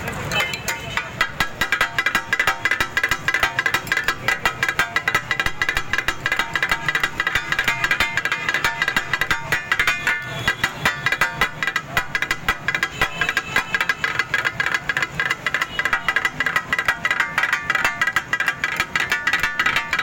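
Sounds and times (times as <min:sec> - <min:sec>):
metal spatulas clanging on griddle: 0:00.1 - 0:20.0.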